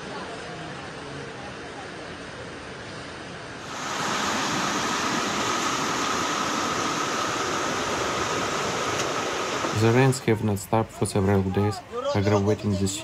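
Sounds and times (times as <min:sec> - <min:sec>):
heavy rain: 0:00.0 - 0:10.5
fast-flowing floodwater: 0:00.0 - 0:12.3
faint steady whine: 0:00.1 - 0:12.9.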